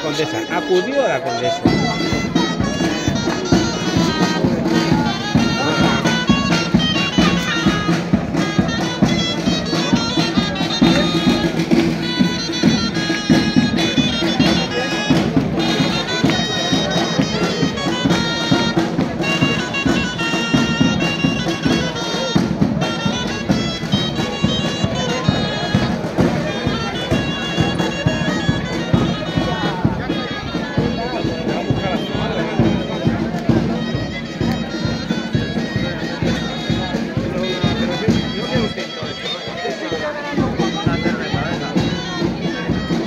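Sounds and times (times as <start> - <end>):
wind instrument melody: 0.0 - 43.0.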